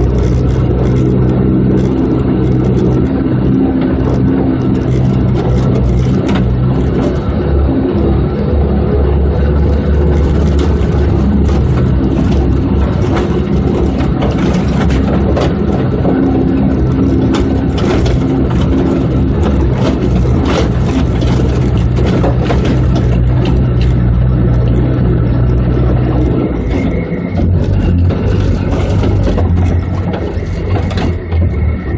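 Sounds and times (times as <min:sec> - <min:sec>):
vehicle engine running: 0:00.0 - 0:31.9
vehicle rattles and knocks: 0:00.0 - 0:31.9.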